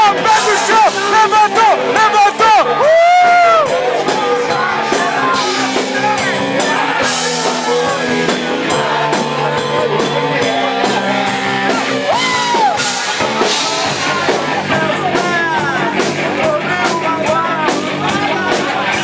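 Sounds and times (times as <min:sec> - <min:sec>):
person singing: 0:00.0 - 0:19.0
rock band playing live: 0:00.0 - 0:19.0.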